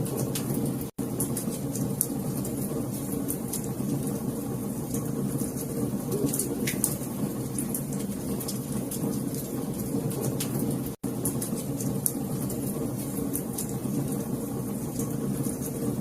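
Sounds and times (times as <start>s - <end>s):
low rumble of burning: 0.0s - 16.0s
wood fire crackling: 0.0s - 16.0s.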